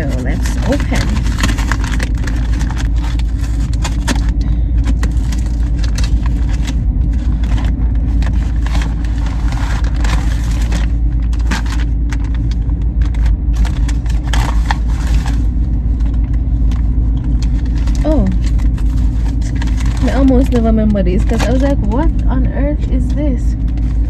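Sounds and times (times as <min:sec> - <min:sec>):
plastic packaging tearing and crinkling: 0:00.0 - 0:22.0
low rumble: 0:00.0 - 0:24.0.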